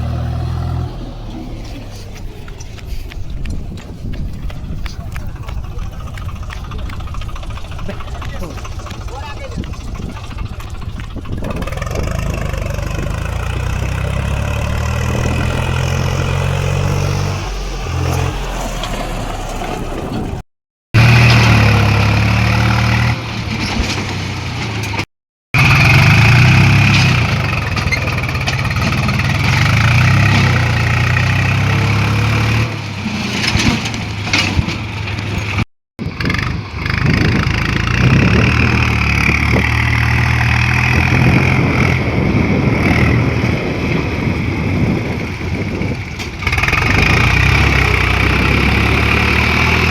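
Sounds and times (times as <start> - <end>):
tractor engine revving: 0.0 - 20.4, 21.0 - 49.9.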